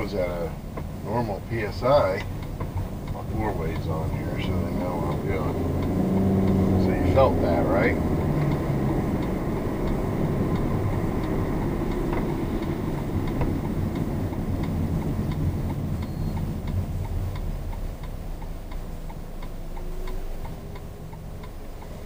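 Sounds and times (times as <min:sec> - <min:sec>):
low drone of moving car: 0:00.0 - 0:22.0
hazard flasher ticking: 0:01.5 - 0:22.0.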